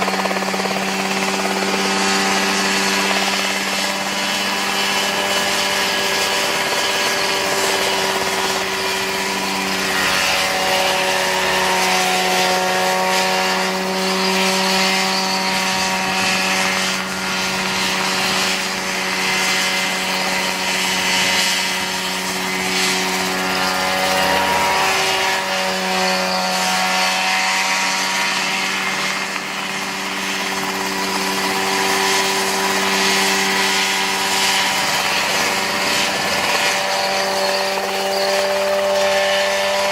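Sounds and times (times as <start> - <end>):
helicopter engine running: 0.0 - 39.9.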